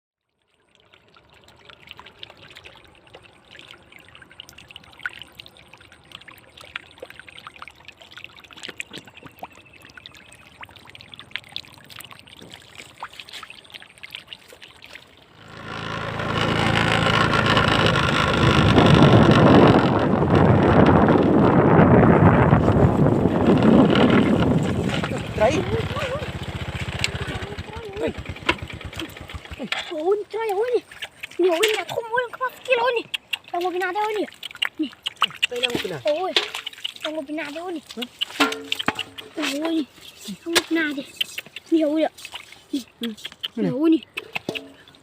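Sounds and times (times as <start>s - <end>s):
water splashes and drips: 0.2s - 16.8s, 22.5s - 45.0s
water trickling: 0.2s - 45.0s.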